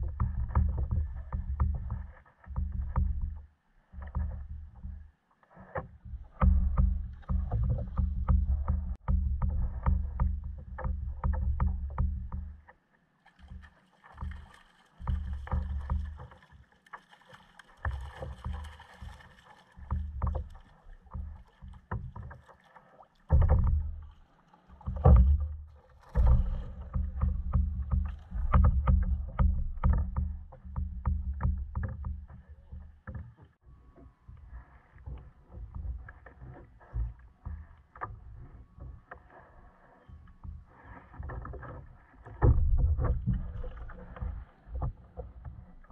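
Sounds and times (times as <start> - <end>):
water splashing against kayak hull: 0.0 - 33.5, 34.3 - 45.9.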